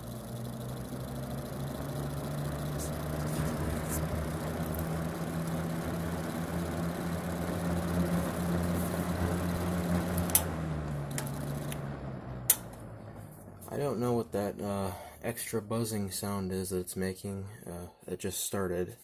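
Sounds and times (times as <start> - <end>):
box fan motor humming: 0.0 - 16.4.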